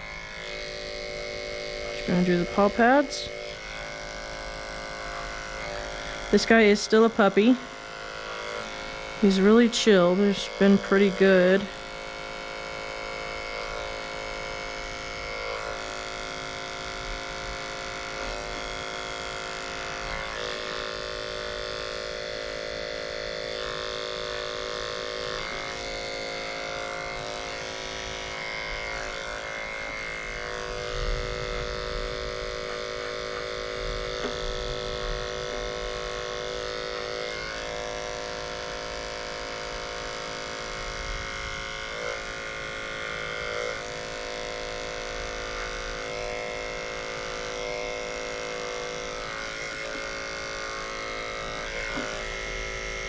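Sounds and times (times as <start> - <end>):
electric dog clippers humming: 0.0 - 53.0.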